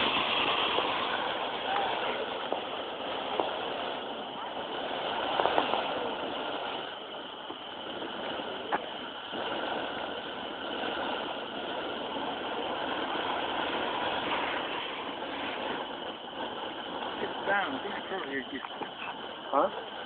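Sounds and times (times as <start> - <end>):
fountain firework hissing: 0.0 - 20.0.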